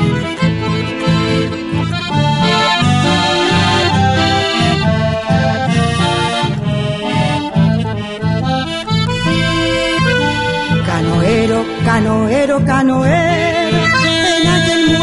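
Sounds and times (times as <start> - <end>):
accordion melody: 0.0 - 15.0
rhythmic low accompaniment: 0.0 - 15.0.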